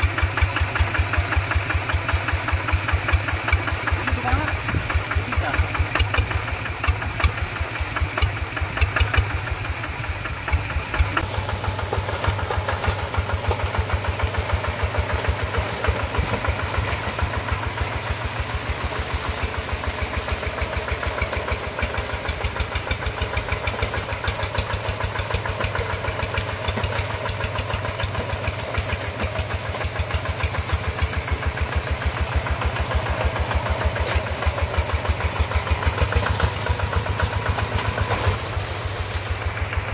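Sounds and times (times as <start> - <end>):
hand tractor diesel engine chugging: 0.0 - 39.9.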